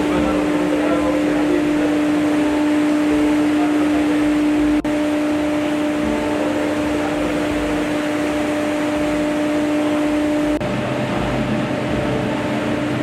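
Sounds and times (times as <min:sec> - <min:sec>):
machinery and ventilation hum: 0:00.0 - 0:13.0.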